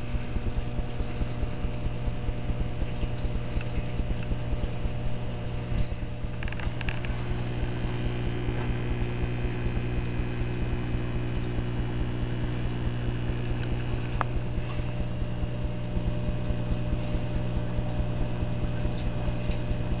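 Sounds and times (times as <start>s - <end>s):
electric motor hum: 0.0s - 20.0s.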